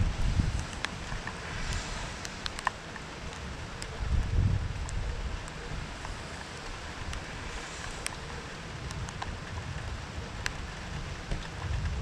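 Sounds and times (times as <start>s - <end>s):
raindrops ticking close by: 0.0s - 12.0s
steady rain hiss: 0.0s - 12.0s
wind buffeting microphone: 0.0s - 12.0s.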